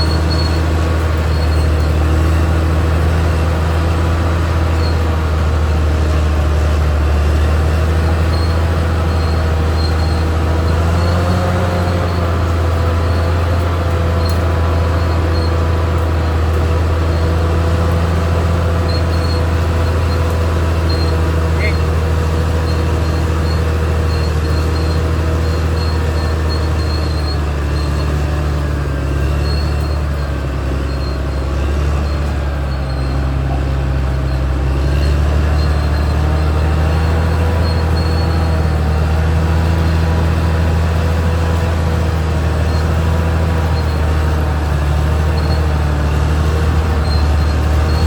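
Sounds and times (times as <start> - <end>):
bulldozer diesel engine droning: 0.0 - 48.0.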